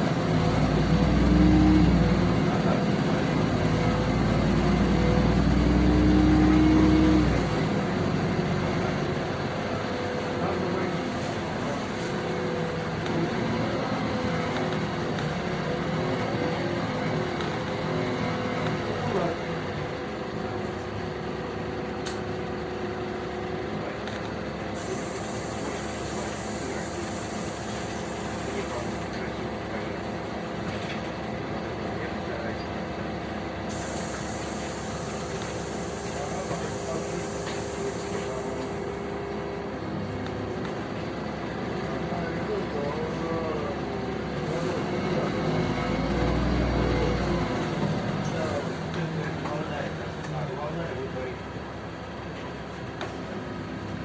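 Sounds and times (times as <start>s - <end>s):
bus diesel engine running: 0.0s - 54.0s
road noise rumble: 0.0s - 54.0s.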